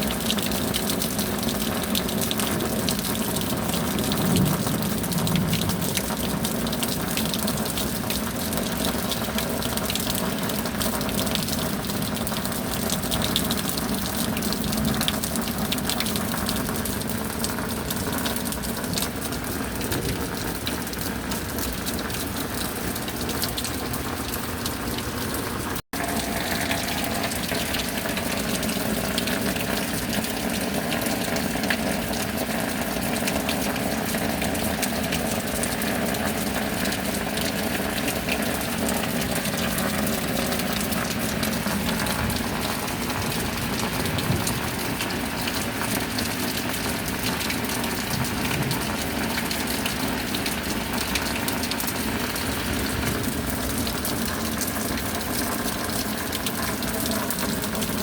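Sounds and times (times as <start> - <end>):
rain with pouring water: 0.0 - 58.0.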